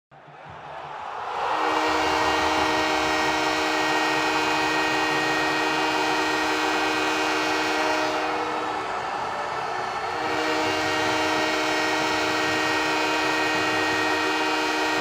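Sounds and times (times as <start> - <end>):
crowd noise: 0.1 - 15.0
goal horn chord: 1.3 - 15.0.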